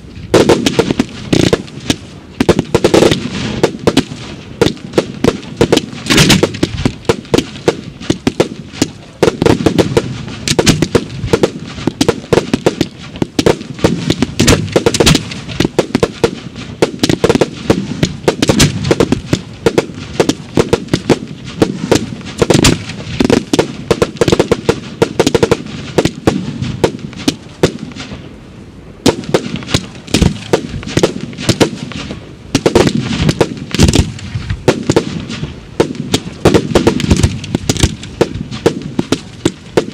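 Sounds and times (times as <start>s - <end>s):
fireworks bangs: 0.0s - 28.4s, 29.0s - 39.9s.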